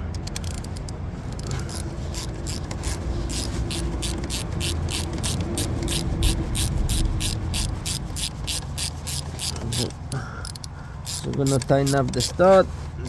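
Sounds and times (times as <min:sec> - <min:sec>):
hand ratchet clicking: 0:00.0 - 0:12.6.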